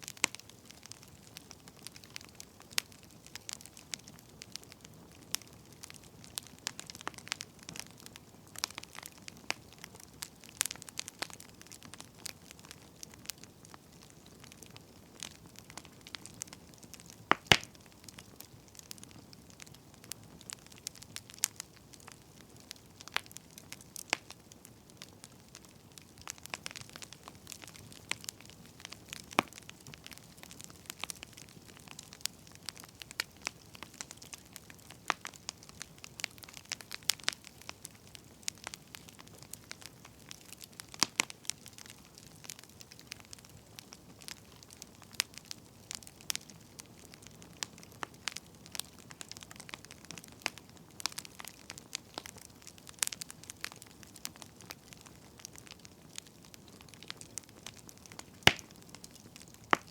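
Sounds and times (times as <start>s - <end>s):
fire pops and snaps: 0.0s - 59.9s
soft steady hiss: 0.0s - 59.9s
wood fire crackling: 0.0s - 59.9s.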